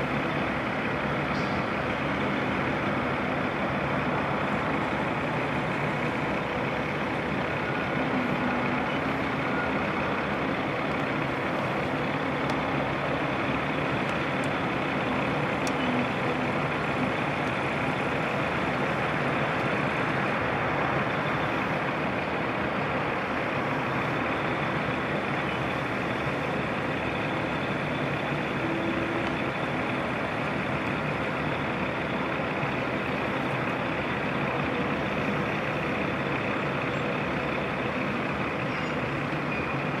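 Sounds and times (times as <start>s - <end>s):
diesel truck engines running: 0.0s - 40.0s.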